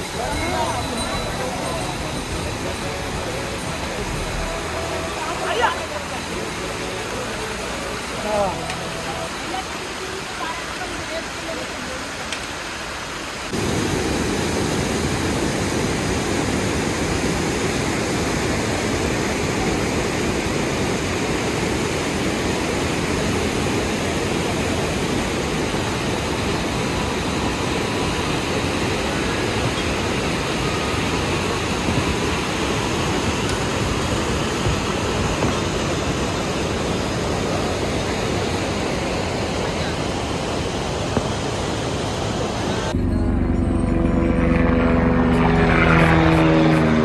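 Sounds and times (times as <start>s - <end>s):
river rushing over boulders: 0.0s - 43.0s.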